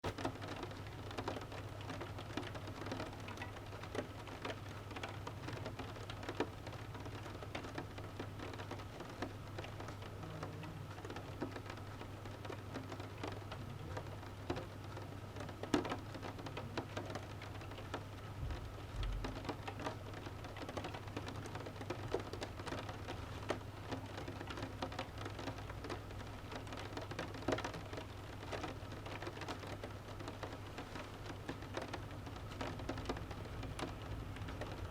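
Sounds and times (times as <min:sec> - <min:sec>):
rain on a window pane: 0:00.0 - 0:34.9.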